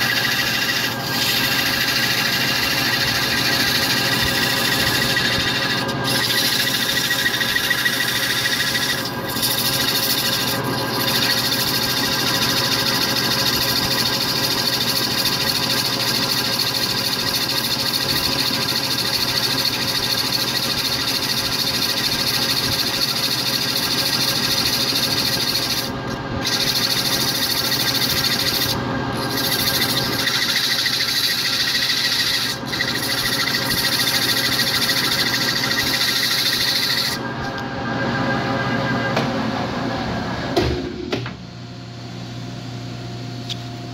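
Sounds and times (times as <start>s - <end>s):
sandpaper hissing on turning wood: 0.0s - 37.2s
lathe running: 0.0s - 40.5s.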